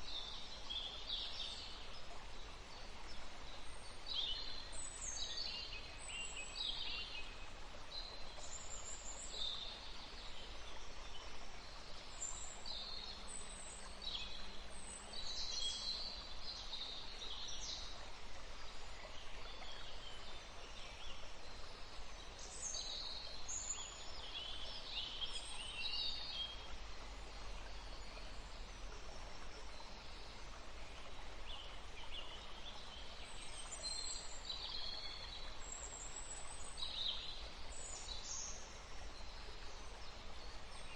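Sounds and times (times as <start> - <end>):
outdoor background hiss: 0.0 - 40.9.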